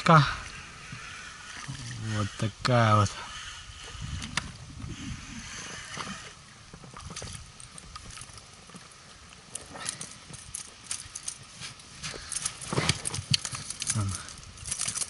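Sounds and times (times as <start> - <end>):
water sloshing around boat: 0.0 - 15.0.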